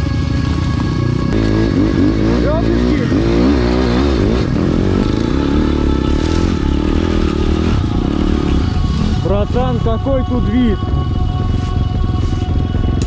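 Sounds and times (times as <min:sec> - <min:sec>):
pit bike engine running: 0:00.0 - 0:13.0.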